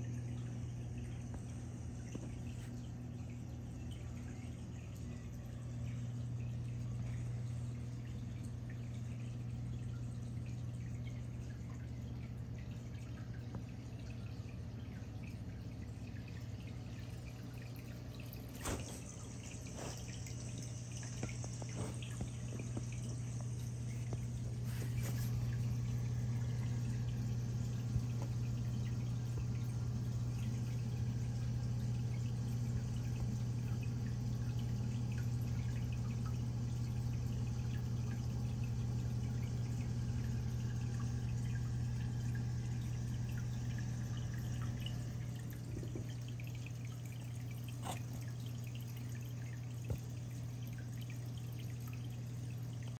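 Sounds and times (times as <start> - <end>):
low pump hum: 0.0 - 53.0
water trickling and dripping: 0.0 - 53.0.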